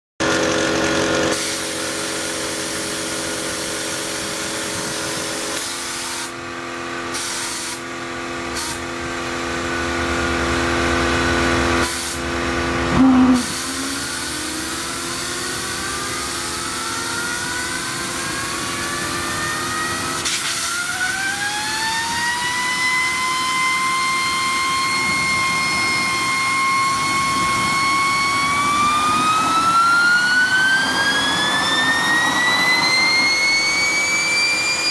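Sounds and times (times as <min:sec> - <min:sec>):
jet turbine whining: 0:00.2 - 0:34.9.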